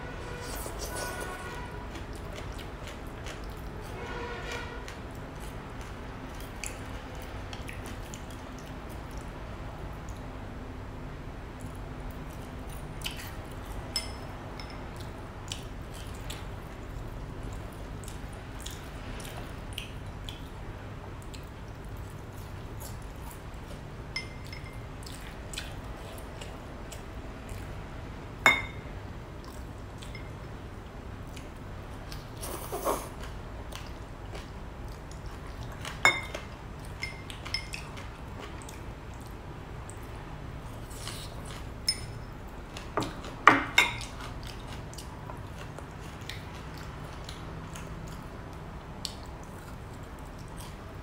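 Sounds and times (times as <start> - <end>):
soft eating sounds: 0.1 - 51.0.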